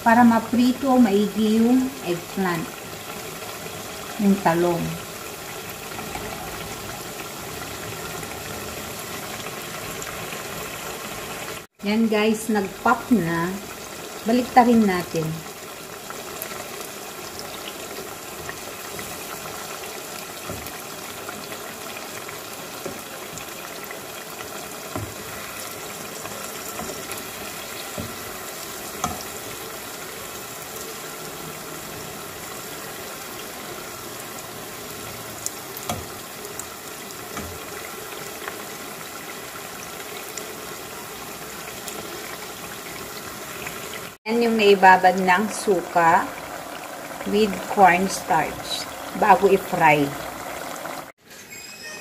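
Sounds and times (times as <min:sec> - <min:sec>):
deep-frying bubbling sizzle: 0:00.0 - 0:52.0.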